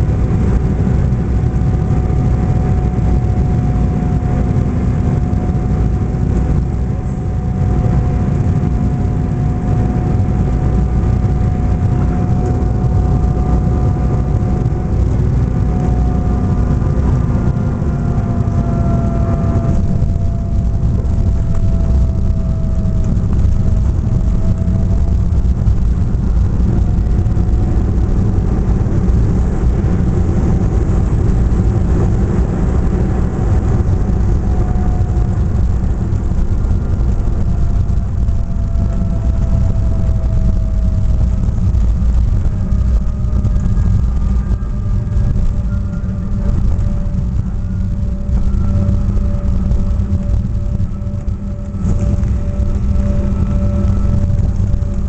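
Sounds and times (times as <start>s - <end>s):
airflow rumble: 0.0s - 55.0s
jet engine drone: 0.0s - 55.0s
thin engine whine: 0.0s - 55.0s.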